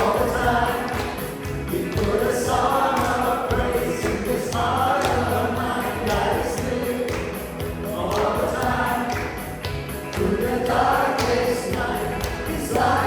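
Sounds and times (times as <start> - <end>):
band playing a praise song: 0.0 - 13.0
voices singing together: 0.0 - 13.0.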